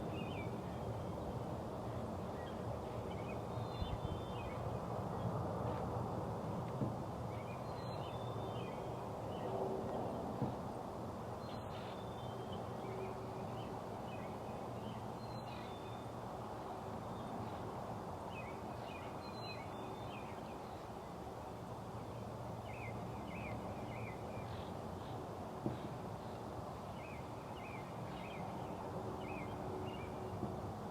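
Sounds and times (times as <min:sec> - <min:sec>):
low background noise: 0:00.0 - 0:30.9.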